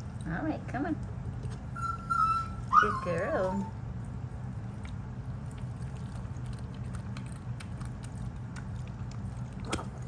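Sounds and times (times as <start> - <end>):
fountain pump hum: 0.0 - 10.0.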